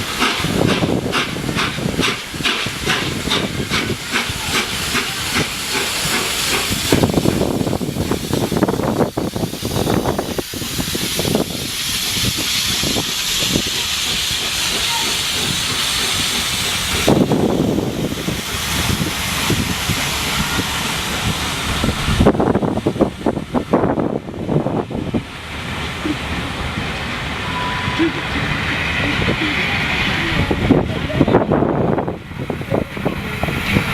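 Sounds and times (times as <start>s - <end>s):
steam hiss: 0.0s - 33.9s
steam locomotive exhaust beats: 0.0s - 33.9s.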